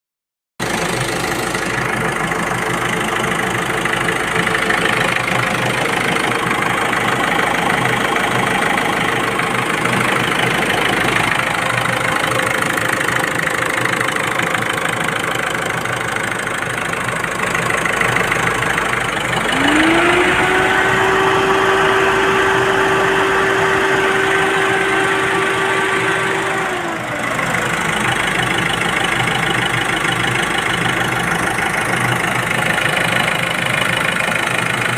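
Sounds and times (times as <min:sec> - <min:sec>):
diesel engine idling and revving: 0:00.6 - 0:34.9.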